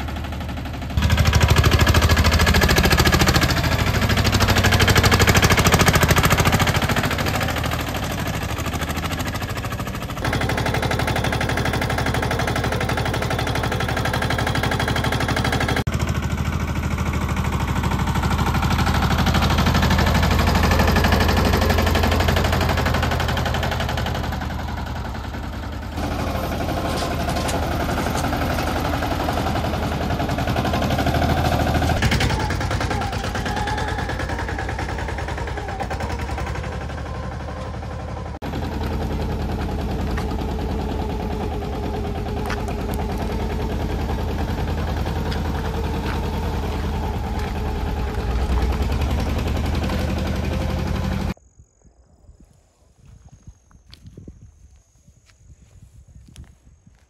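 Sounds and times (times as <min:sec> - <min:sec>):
tractor diesel engine chugging: 0:00.0 - 0:51.4.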